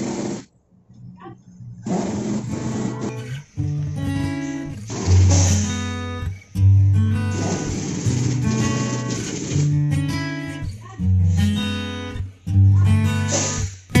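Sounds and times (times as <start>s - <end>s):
strummed acoustic guitar: 1.7s - 14.0s.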